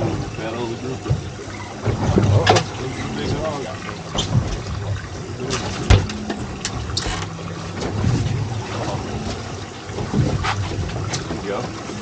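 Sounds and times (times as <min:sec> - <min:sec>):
boat motor hum: 0:00.0 - 0:12.0
water splashing: 0:00.0 - 0:12.0.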